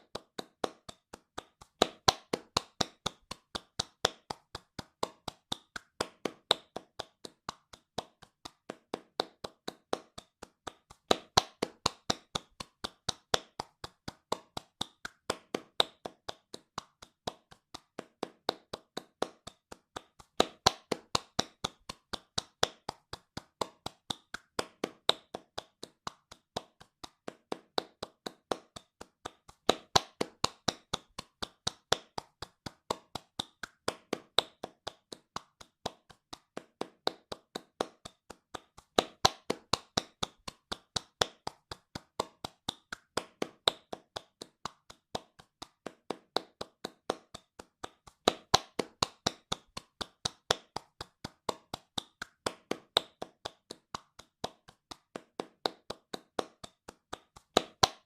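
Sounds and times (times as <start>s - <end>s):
hands clapping fast: 0.0s - 58.0s.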